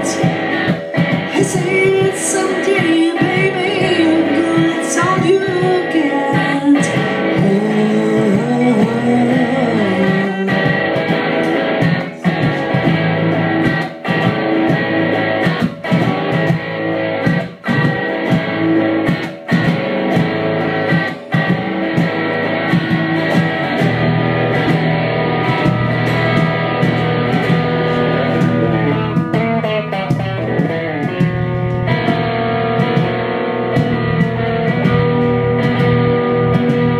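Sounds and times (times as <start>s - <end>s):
electric guitars playing rock chords: 0.0s - 36.9s.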